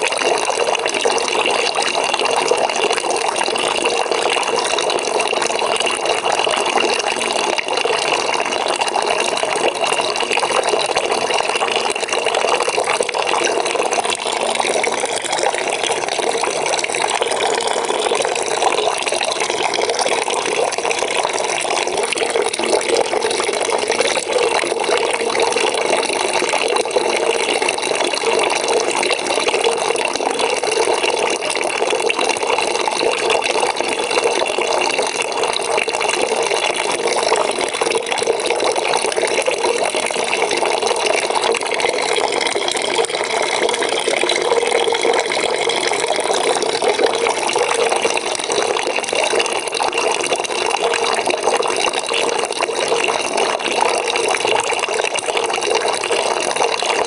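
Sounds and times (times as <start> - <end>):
tap water running into a bucket: 0.0 - 57.0.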